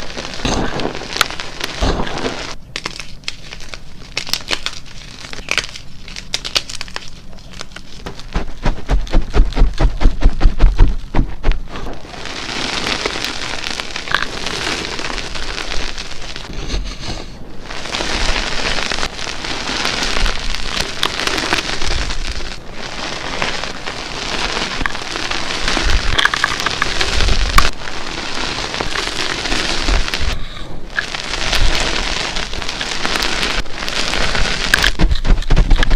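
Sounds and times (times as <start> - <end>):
chalk crunching and crumbling: 0.0 - 35.9.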